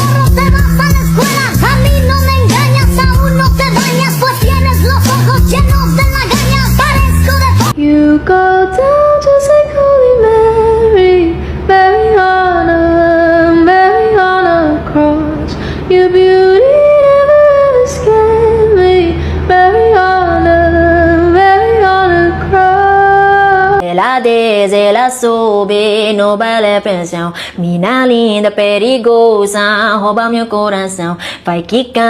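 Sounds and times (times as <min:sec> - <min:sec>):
woman singing slow melody: 0:00.0 - 0:32.0.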